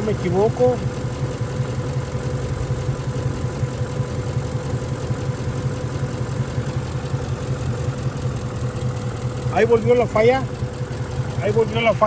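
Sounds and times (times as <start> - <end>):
truck engine idling unevenly: 0.0 - 12.0.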